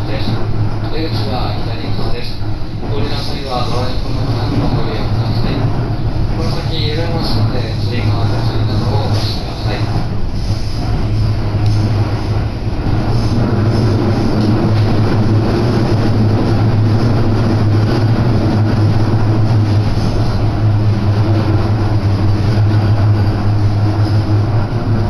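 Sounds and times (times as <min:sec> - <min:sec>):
low hum: 0:00.0 - 0:25.0
train rolling noise: 0:00.0 - 0:25.0.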